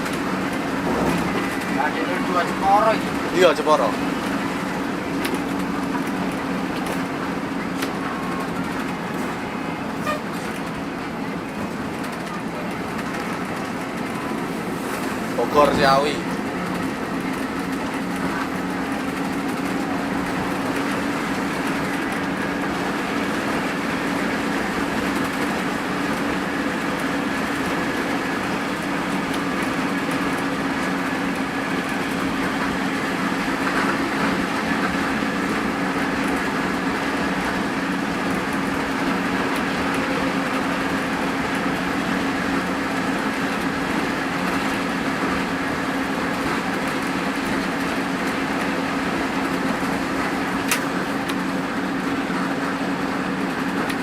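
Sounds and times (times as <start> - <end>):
coach diesel engine humming: 0.0 - 54.0
tyre and road noise: 0.0 - 54.0.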